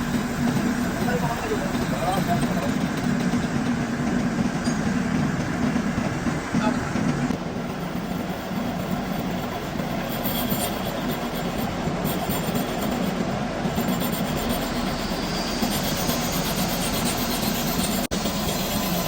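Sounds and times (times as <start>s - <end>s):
metal lathe running: 0.0s - 19.0s.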